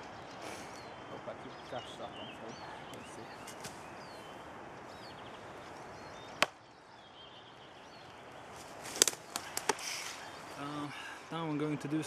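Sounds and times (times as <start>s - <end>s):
small birds chirping faintly: 0.0s - 12.0s.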